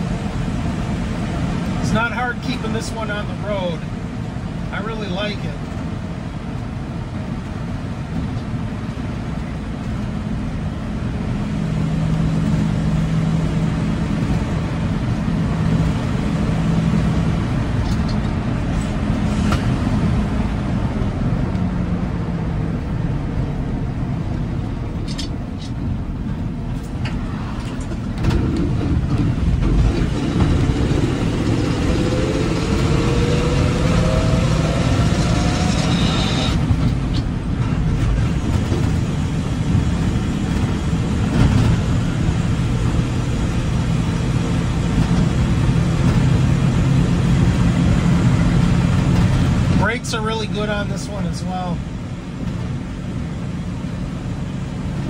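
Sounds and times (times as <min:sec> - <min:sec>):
rising drivetrain whine: 0:00.0 - 0:55.0
truck engine running: 0:00.0 - 0:55.0.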